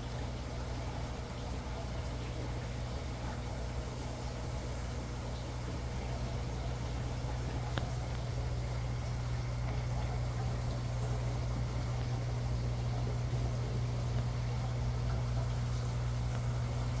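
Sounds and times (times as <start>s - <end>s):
aquarium equipment hum and hiss: 0.0s - 17.0s.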